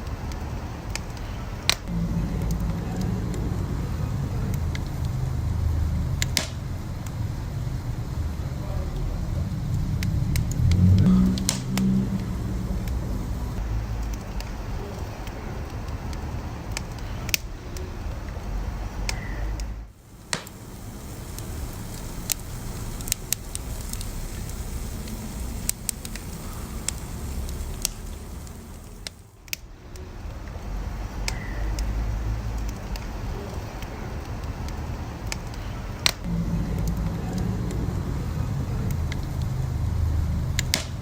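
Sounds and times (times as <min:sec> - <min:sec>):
fire low rumble: 0:00.0 - 0:41.0
wood fire crackling and popping: 0:00.0 - 0:41.0.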